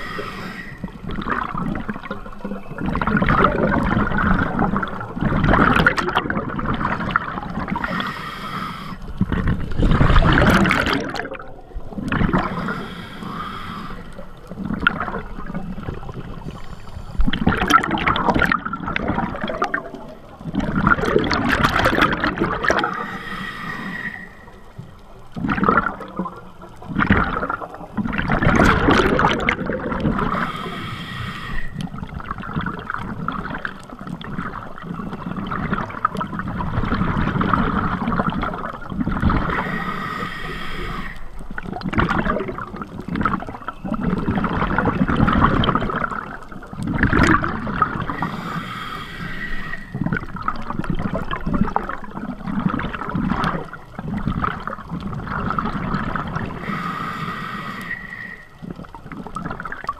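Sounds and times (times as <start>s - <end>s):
air bubbles rushing and gurgling: 0.0s - 8.2s, 9.0s - 13.0s, 14.1s - 24.1s, 24.8s - 31.0s, 31.7s - 40.5s, 41.3s - 59.9s
underwater noise: 0.0s - 59.9s.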